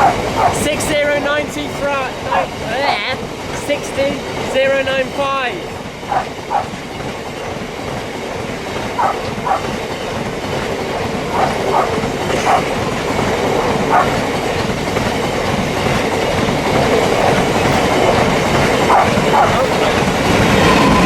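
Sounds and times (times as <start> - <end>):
freight train rumbling past: 0.0 - 21.0
wheels clicking over rail joints: 0.0 - 21.0.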